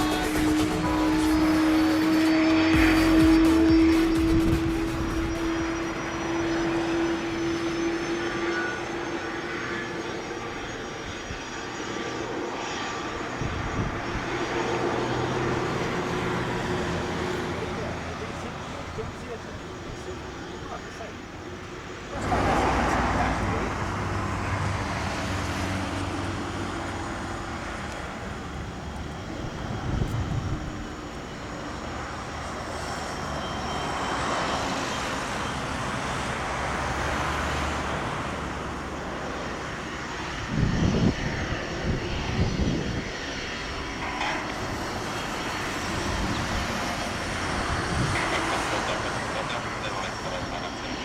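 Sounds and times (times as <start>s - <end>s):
jet engines humming: 0.0s - 51.0s.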